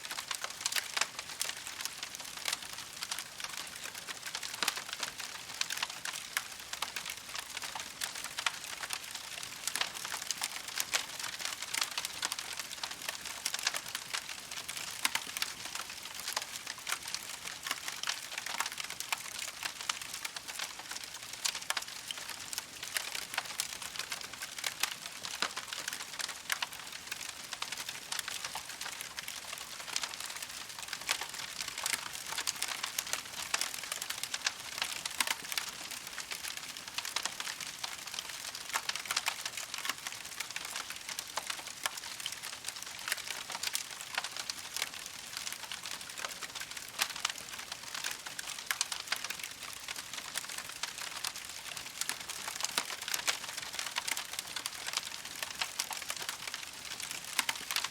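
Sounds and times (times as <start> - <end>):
campfire crackling: 0.2 - 57.9.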